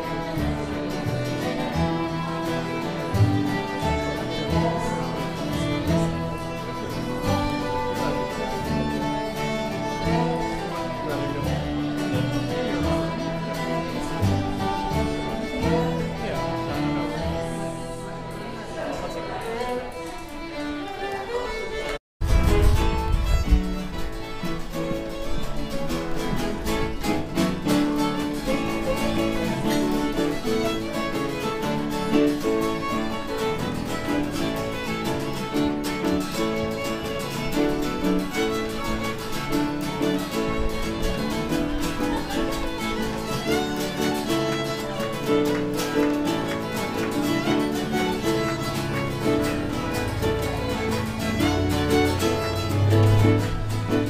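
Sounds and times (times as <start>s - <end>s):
acoustic guitars strumming: 0.0s - 54.0s
fiddle playing a tune: 0.0s - 54.0s.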